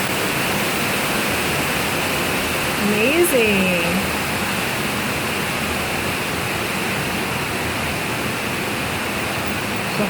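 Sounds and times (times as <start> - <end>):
waterfall rushing in a cave: 0.0 - 10.0.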